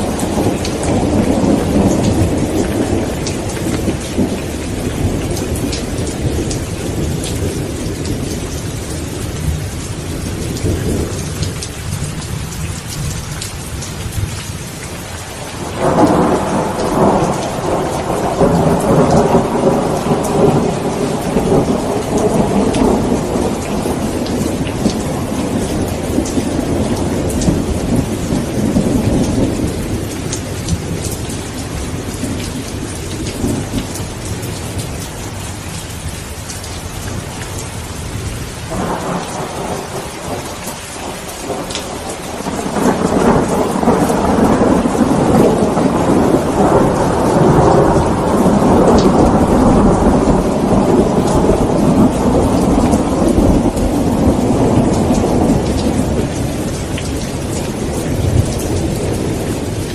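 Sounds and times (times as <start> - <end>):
rolling thunder: 0.0 - 14.4, 15.3 - 59.9
heavy rain: 0.0 - 59.9.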